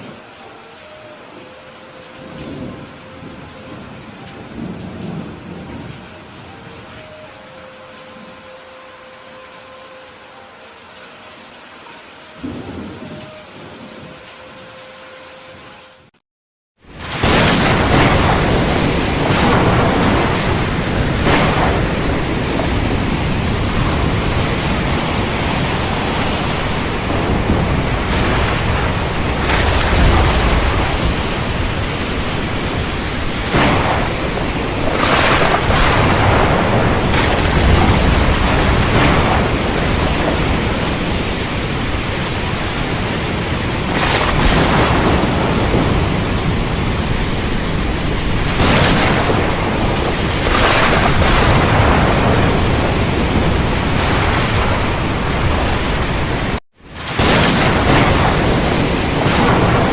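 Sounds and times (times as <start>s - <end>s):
heavy rain pouring: 0.0s - 16.2s, 16.8s - 59.9s
thunder rumbling: 1.5s - 7.7s, 12.4s - 14.3s, 16.9s - 59.9s.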